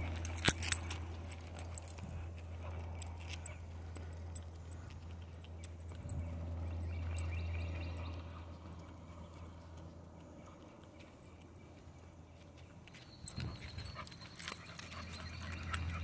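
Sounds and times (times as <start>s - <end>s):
metal clicks and jingling: 0.0s - 11.6s, 12.9s - 16.0s
steady low rumble: 0.0s - 16.0s.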